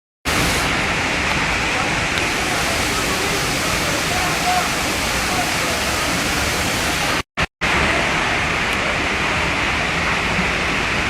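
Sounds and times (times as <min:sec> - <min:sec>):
waterfall rushing: 0:00.3 - 0:11.0.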